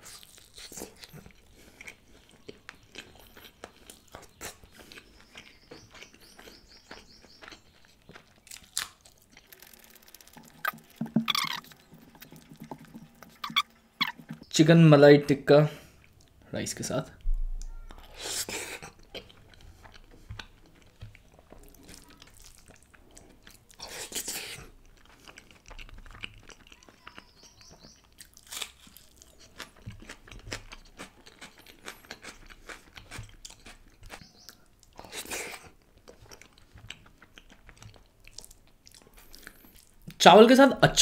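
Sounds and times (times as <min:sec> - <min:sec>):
chewing with wet mouth sounds: 0:00.0 - 0:14.5, 0:15.8 - 0:16.4, 0:17.7 - 0:40.2.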